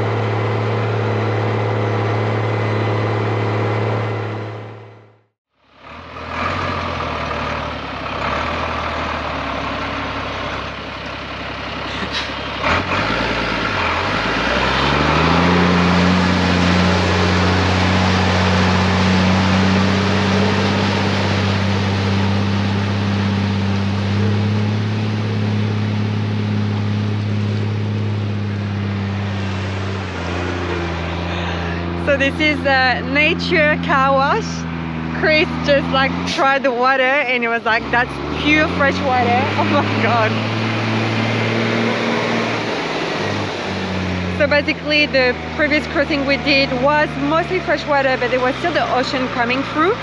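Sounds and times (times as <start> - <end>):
diesel truck engine pulling: 0.0 - 50.0
water splashing around tyres: 6.6 - 32.0, 33.3 - 50.0.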